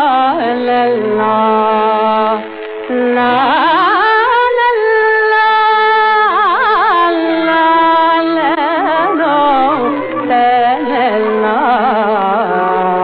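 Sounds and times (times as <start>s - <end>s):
classical vocal film song: 0.0s - 13.0s.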